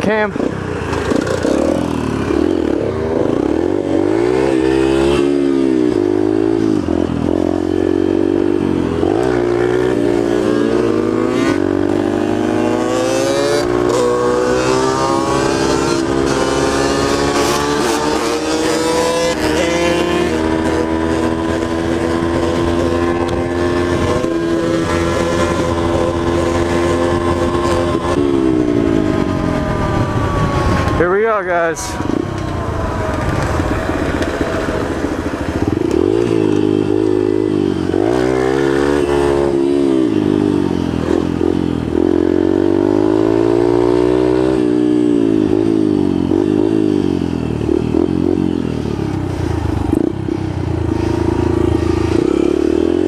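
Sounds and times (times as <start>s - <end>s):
dirt bike engine accelerating: 0.0s - 53.0s.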